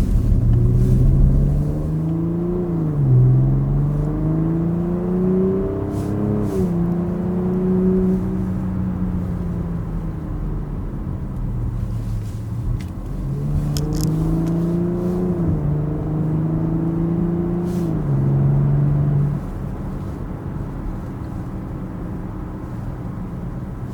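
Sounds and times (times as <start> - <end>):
car engine exhaust drone: 0.0 - 23.9.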